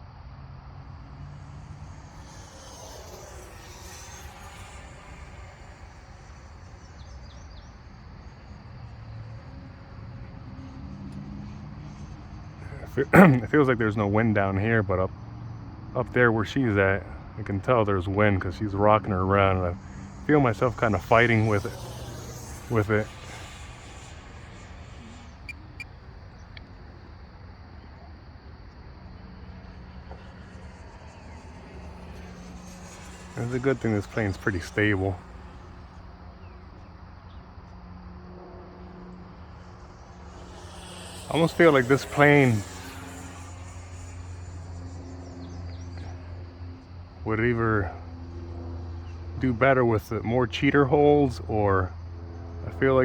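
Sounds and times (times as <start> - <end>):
low hum: 0.0 - 13.6, 16.6 - 49.4
faint electric ducted fan: 0.0 - 53.0.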